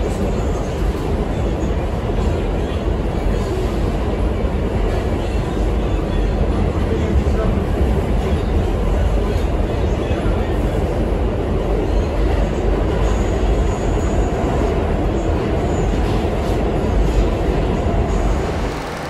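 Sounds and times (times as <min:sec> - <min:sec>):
subway car running rumble: 0:00.0 - 0:19.0.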